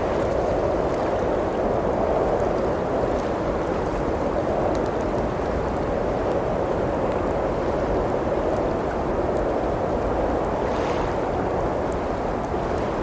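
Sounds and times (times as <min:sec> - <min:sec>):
blizzard wind blowing: 0:00.0 - 0:13.0
wood fire crackles: 0:00.0 - 0:13.0.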